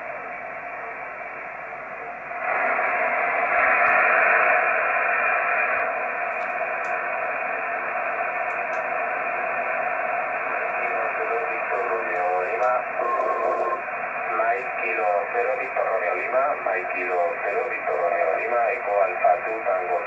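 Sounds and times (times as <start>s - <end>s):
radio receiver hiss: 0.0s - 20.0s.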